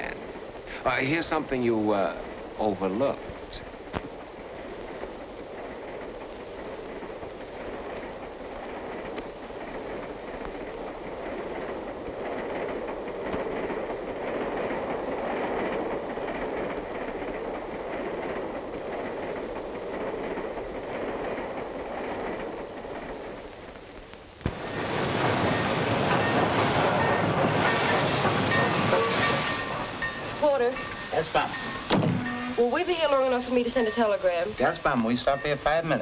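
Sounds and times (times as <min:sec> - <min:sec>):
moving train rumble: 0:00.0 - 0:36.0
steam locomotive rushing: 0:00.0 - 0:36.0.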